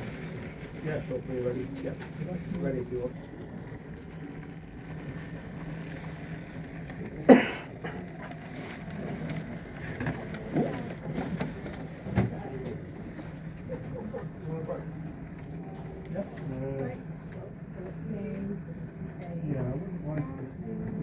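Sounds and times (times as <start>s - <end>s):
model train humming: 0.0s - 21.0s.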